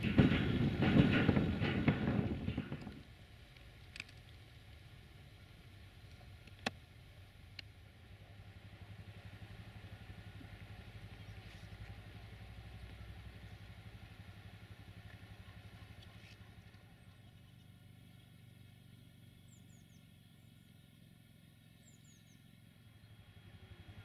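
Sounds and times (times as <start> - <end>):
faint low engine rumble: 0.0 - 24.0.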